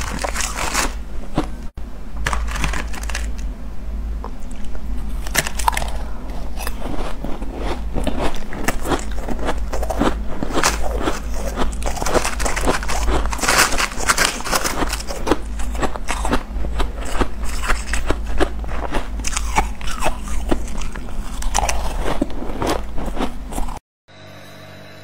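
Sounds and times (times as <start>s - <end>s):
quiet steady hum: 0.0s - 25.0s.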